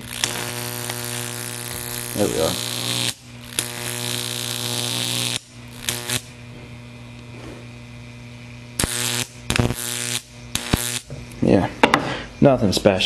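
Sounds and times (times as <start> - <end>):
electric arc buzzing: 0.0 - 13.0
transformer mains hum: 0.0 - 13.0.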